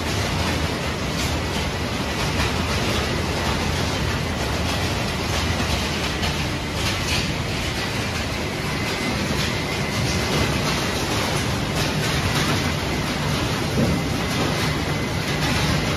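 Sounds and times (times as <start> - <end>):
machinery hum and rumble: 0.0 - 15.9.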